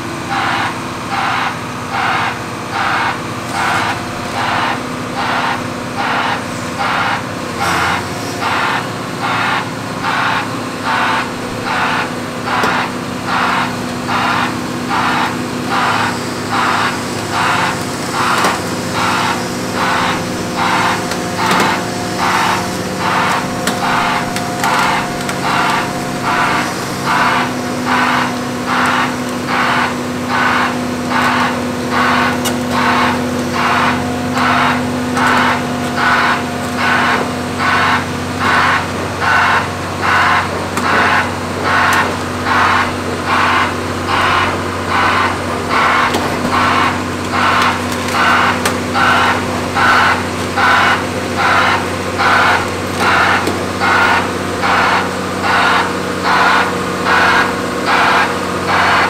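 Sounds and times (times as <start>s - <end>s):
diesel construction machinery running: 0.0s - 59.0s
reversing alarm pulses: 0.2s - 59.0s.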